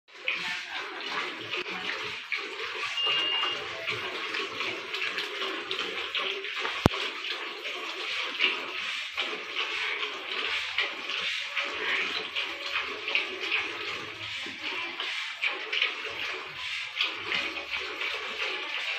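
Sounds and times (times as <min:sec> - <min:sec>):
milk squirting into pail: 0:00.1 - 0:18.9.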